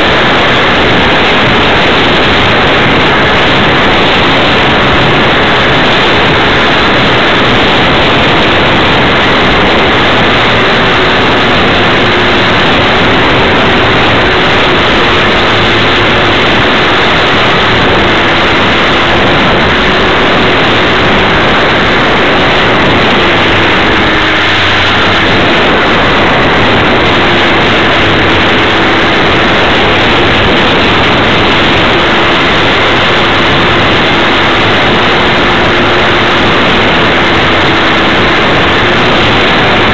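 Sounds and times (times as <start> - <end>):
wind and propeller rush: 0.0 - 39.9.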